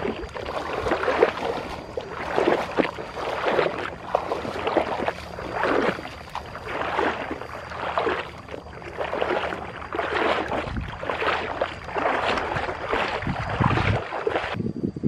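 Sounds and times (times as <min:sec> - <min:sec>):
footsteps splashing through water: 0:00.0 - 0:14.6.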